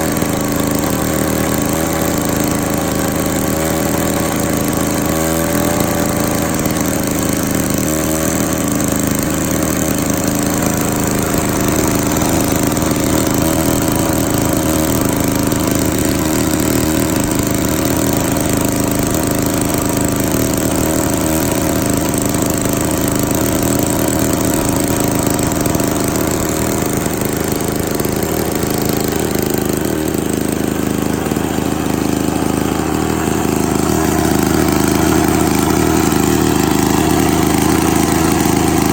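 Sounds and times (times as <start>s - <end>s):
lawn mower engine running: 0.0s - 38.9s.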